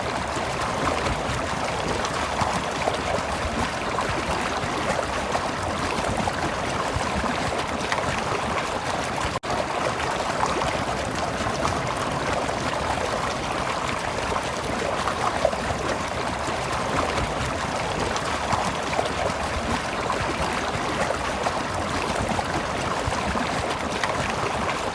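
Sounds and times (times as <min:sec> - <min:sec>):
stream water babbling: 0:00.0 - 0:24.9.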